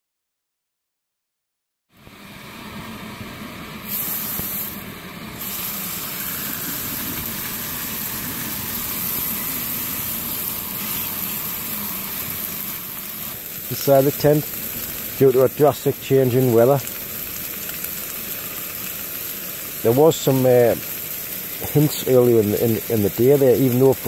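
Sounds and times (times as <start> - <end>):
steak sizzling in frying pan: 3.8 - 4.8, 5.4 - 24.0.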